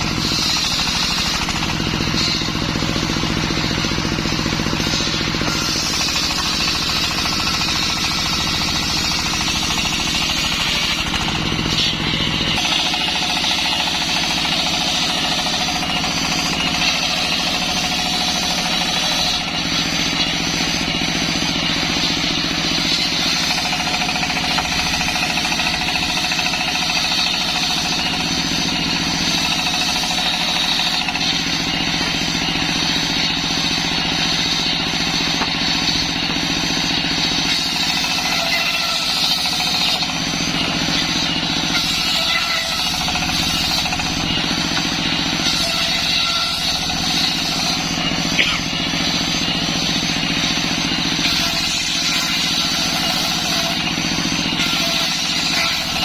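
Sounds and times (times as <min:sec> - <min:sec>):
circular saw running with whine: 0:00.0 - 0:56.0.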